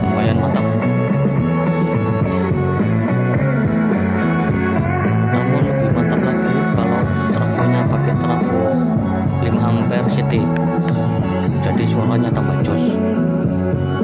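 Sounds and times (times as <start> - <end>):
rock music with guitar and singing: 0.0 - 14.0.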